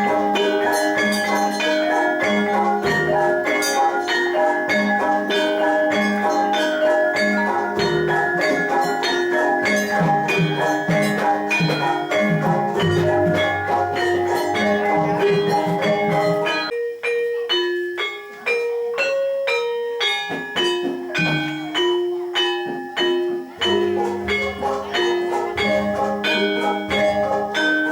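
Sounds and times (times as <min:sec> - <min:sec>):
gamelan metallophones and gongs: 0:00.0 - 0:27.9.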